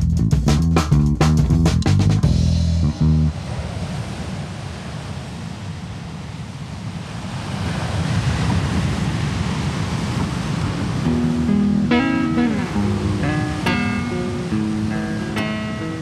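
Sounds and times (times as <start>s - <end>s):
ocean waves breaking: 2.5s - 16.0s.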